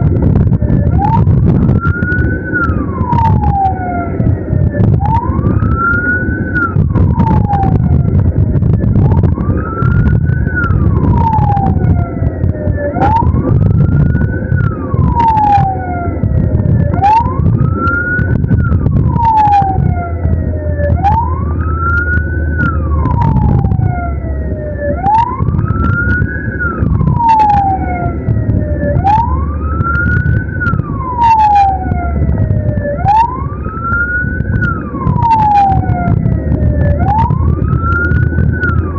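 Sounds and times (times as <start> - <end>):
ambulance siren wailing: 0.0 - 38.9
low vehicle and road rumble: 0.0 - 38.9.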